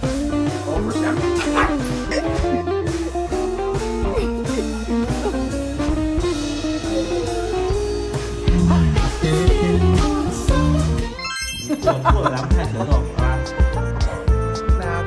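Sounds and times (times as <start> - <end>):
blues guitar with bass and drums: 0.0 - 11.2, 11.8 - 15.0.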